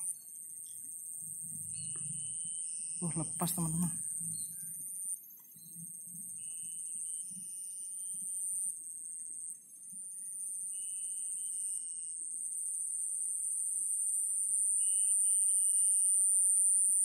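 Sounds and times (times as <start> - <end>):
insect fast-pulsed trill: 0.0 - 17.0
insect low whine: 0.0 - 17.0
insects buzzing high-pitched: 0.0 - 17.0.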